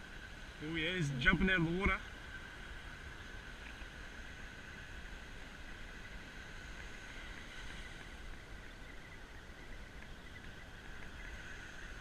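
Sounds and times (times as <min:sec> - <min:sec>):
surf and wind hiss: 0:00.0 - 0:12.0.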